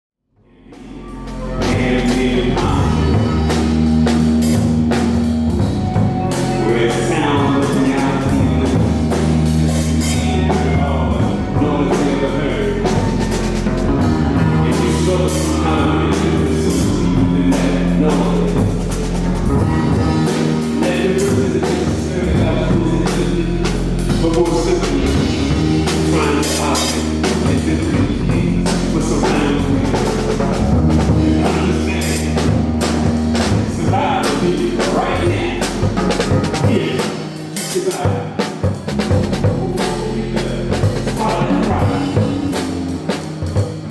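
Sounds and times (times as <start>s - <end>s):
slow repeating bass line: 0.4s - 37.9s, 38.7s - 43.9s
band playing: 0.5s - 43.9s
drum kit: 0.7s - 43.9s.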